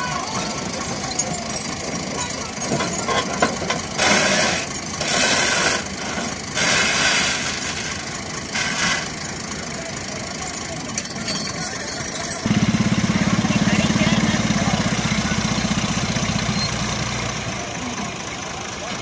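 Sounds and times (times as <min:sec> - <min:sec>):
tractor diesel engine chugging: 0:00.0 - 0:19.0.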